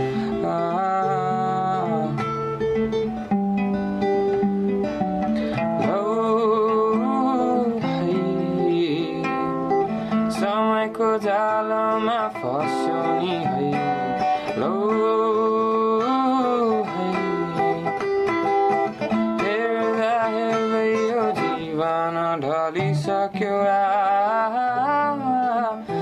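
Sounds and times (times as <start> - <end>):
person singing with vibrato: 0.0 - 3.3, 5.4 - 26.0
acoustic guitar: 0.0 - 26.0.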